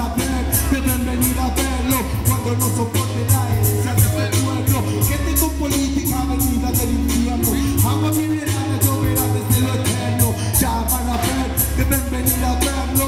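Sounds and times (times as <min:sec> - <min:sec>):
hip hop beat with heavy bass: 0:00.0 - 0:13.0
rapper's vocals: 0:00.0 - 0:13.0.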